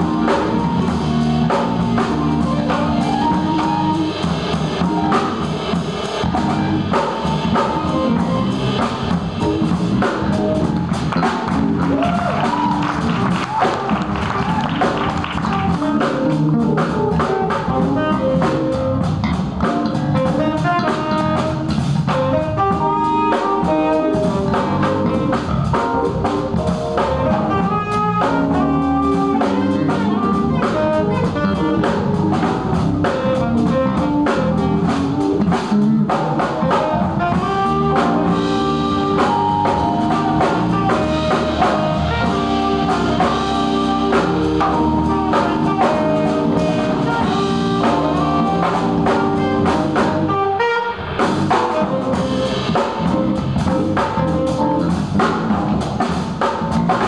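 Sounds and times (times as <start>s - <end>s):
saxophone: 0.0s - 55.5s
drum kit: 0.0s - 57.0s
electric guitar: 0.0s - 57.0s
keyboard: 0.0s - 57.0s.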